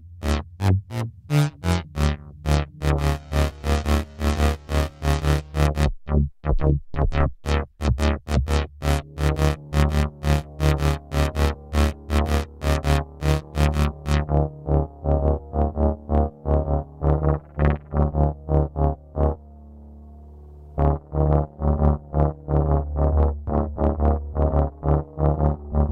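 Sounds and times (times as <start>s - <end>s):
sequenced synth notes: 0.0s - 25.9s
steady synth bass line: 0.0s - 25.9s.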